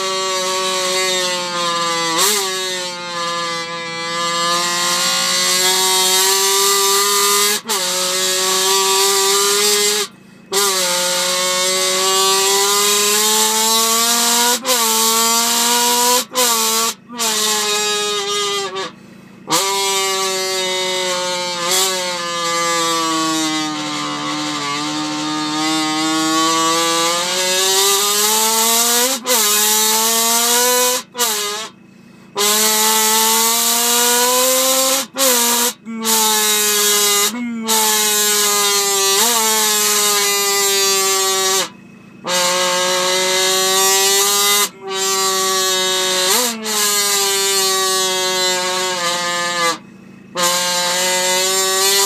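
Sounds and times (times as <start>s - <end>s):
buzzy horn-like tone: 0.0s - 52.0s.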